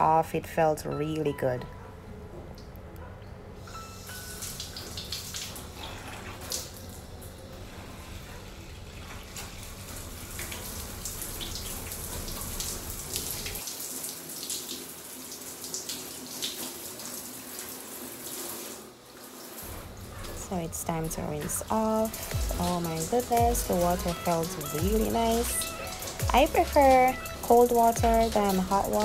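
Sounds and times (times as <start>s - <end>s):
shower water running: 3.6s - 29.0s
water splashes and drips: 3.8s - 29.0s.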